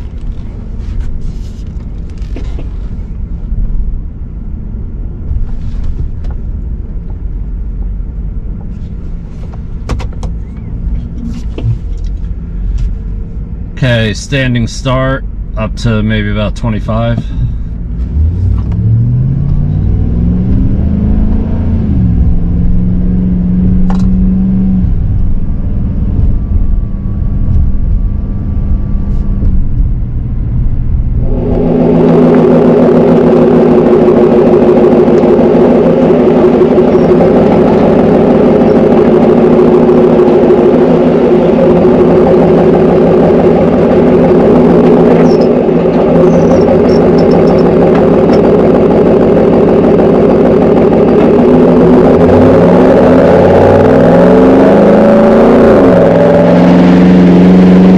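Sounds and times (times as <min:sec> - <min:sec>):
exhaust note at low revs: 0:00.0 - 0:57.9
truck engine accelerating from cab: 0:00.0 - 0:57.9.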